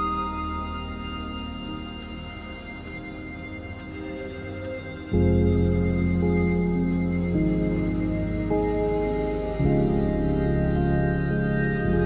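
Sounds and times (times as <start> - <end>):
ambient music with held chords: 0.0 - 12.0.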